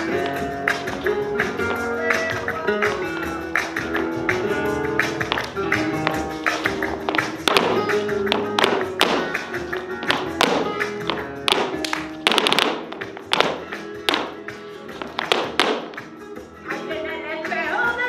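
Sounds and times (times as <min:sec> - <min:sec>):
flamenco music: 0:00.0 - 0:18.0.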